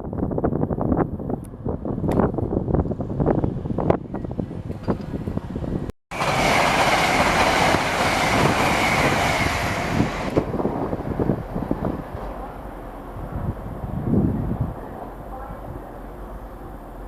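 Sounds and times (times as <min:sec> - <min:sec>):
train passing at speed: 0:02.6 - 0:17.0.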